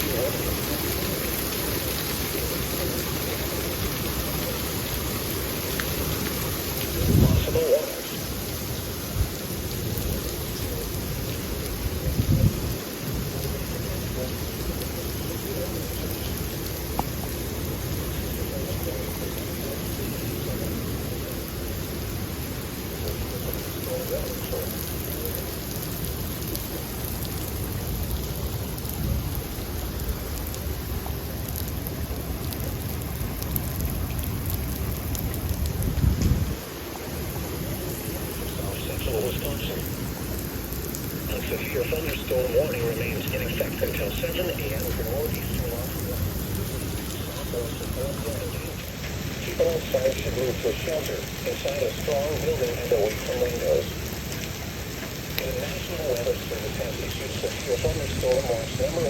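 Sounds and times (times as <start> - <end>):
thunder rumbling: 0.0 - 15.5, 26.7 - 59.0
heavy rain: 0.0 - 59.0.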